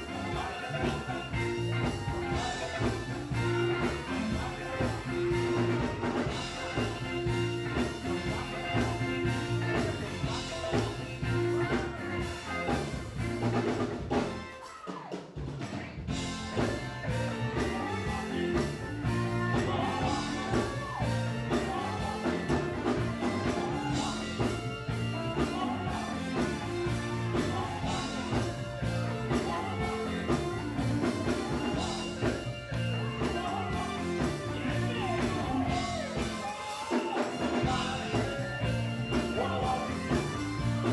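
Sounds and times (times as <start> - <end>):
men singing gospel: 0.0 - 13.6, 16.1 - 40.9
drum kit beat: 0.0 - 40.9
electric guitars: 0.0 - 40.9.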